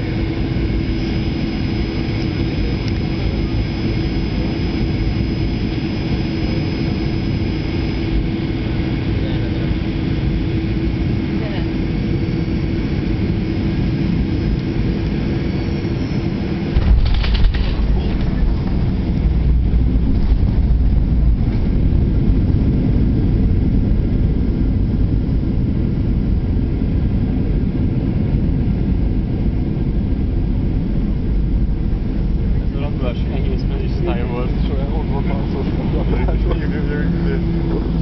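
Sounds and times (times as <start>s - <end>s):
plane engine and airflow noise: 0.0s - 38.0s
runway rollout rumble: 0.0s - 38.0s.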